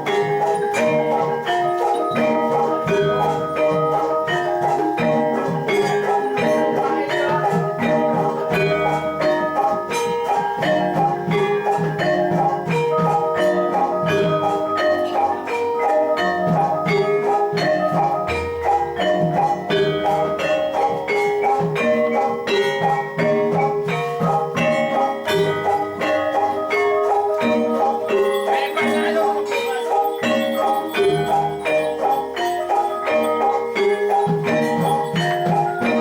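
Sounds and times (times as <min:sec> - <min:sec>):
gamelan metallophones and gong-chimes: 0:00.0 - 0:36.0.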